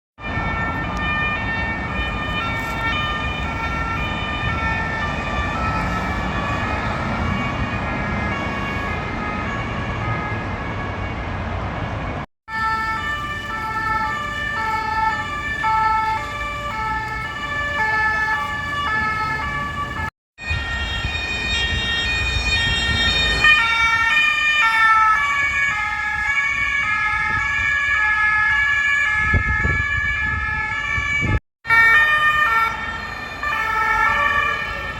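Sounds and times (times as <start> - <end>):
traffic and engine rumble: 0.2 - 28.6, 30.4 - 34.9
two-tone police sirens: 0.2 - 34.9.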